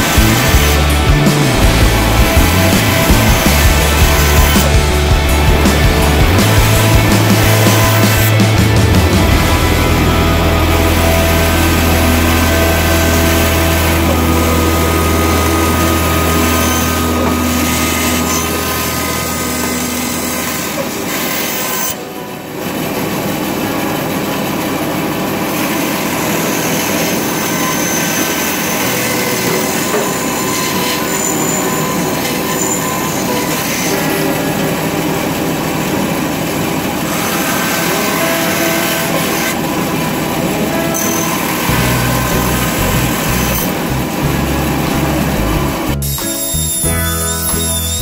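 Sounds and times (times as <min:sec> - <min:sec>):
bandsaw cutting wood: 0:00.0 - 0:22.1, 0:25.0 - 0:48.0.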